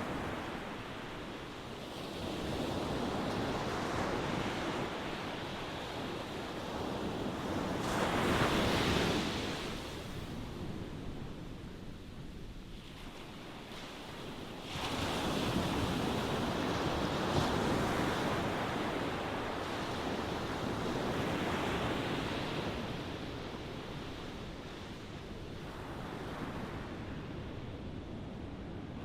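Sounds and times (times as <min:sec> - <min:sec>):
ocean waves breaking on shore: 0:00.0 - 0:29.0.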